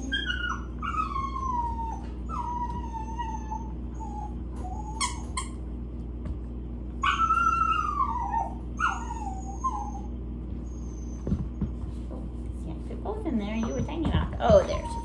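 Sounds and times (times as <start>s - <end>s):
dog whining: 0.0s - 5.6s, 7.0s - 12.0s, 13.5s - 15.0s.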